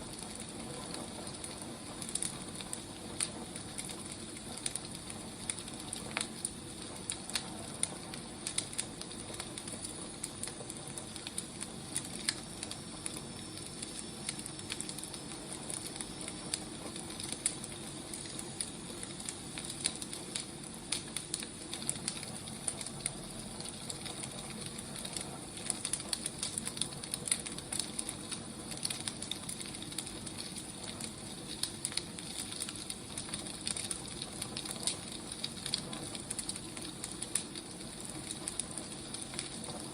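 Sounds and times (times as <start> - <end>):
firewood crackling and popping: 0.0 - 39.9
wood fire hissing: 0.0 - 39.9.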